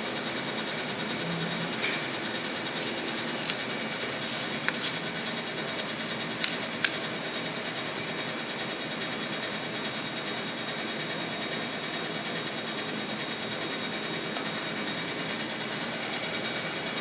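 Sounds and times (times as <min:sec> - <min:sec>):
machine hiss and hum: 0:00.0 - 0:17.0.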